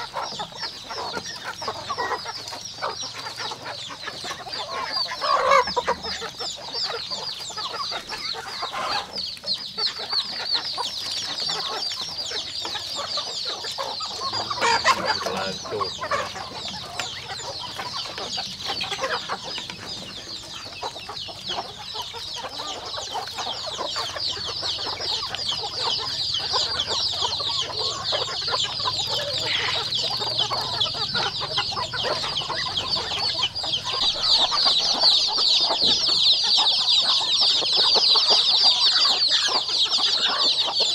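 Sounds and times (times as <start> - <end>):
chickens clucking: 0.0 - 40.9
chicks peeping: 0.0 - 40.9.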